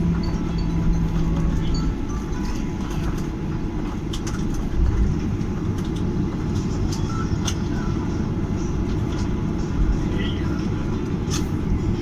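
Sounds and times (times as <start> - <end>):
airliner rumble in cabin: 0.0 - 12.0.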